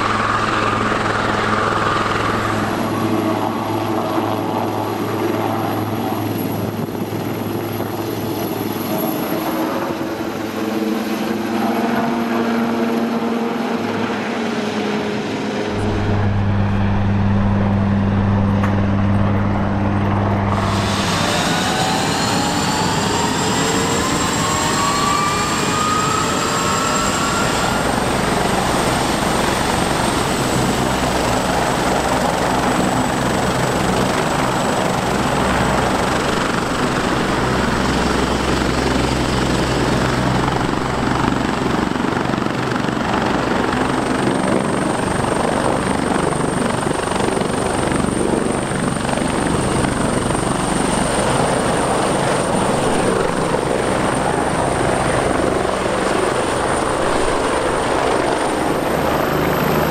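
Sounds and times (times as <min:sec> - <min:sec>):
helicopter rotor noise: 0:00.0 - 0:59.9
helicopter turbine whine: 0:00.0 - 0:59.9.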